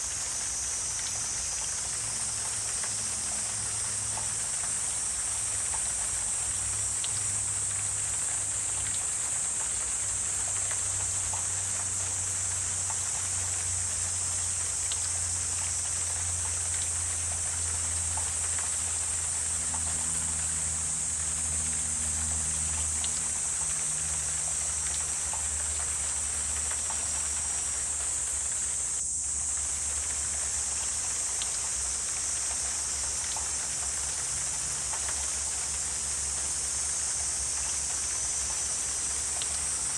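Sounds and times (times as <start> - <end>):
faint scattered ticks: 0.0 - 39.9
high-pitched insect drone: 0.0 - 39.9.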